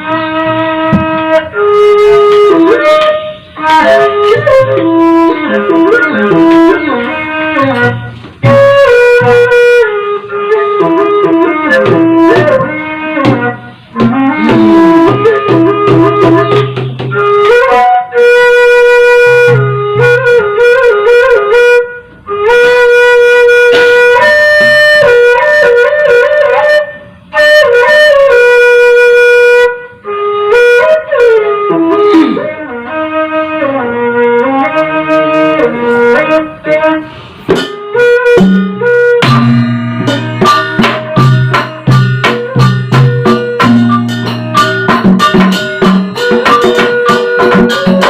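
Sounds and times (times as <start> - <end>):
wind instrument playing long notes: 0.0 - 48.0.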